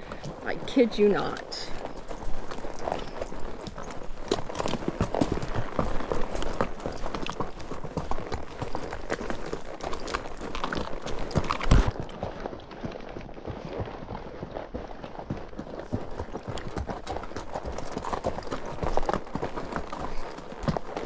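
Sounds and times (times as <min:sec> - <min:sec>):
horse hooves clopping on rocks: 0:00.0 - 0:21.0.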